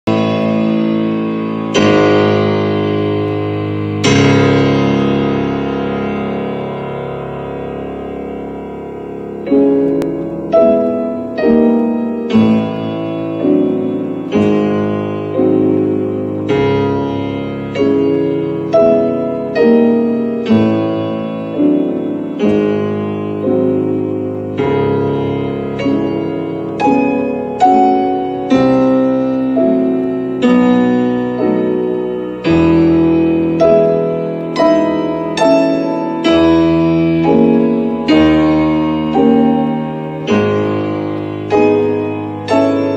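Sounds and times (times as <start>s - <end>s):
piano chords: 0.0s - 42.9s.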